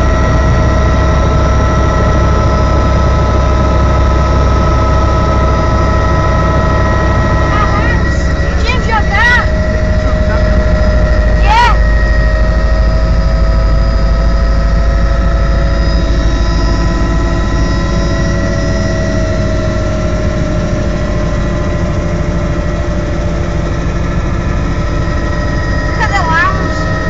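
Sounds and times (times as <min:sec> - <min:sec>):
helicopter engine and rotor noise: 0:00.0 - 0:27.0
high whining tones: 0:00.0 - 0:27.0.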